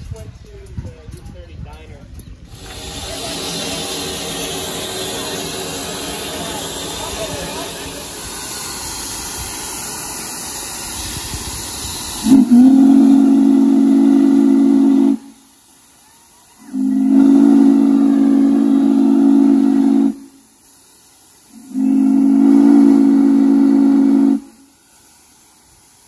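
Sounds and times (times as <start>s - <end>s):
steam hissing: 2.3s - 26.0s
steam whistle blasts: 2.6s - 20.6s, 21.5s - 24.8s.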